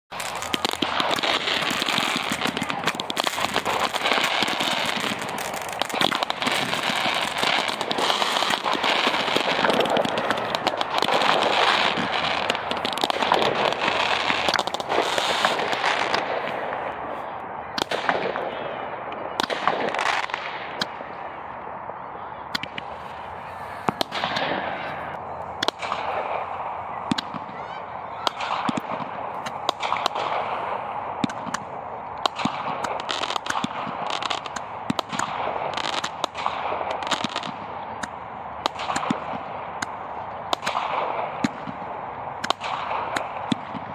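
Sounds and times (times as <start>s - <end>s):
fireworks bangs and pops: 0.1s - 16.9s, 17.8s - 21.1s, 22.6s - 43.9s
fireworks crackling and hissing: 0.1s - 43.9s.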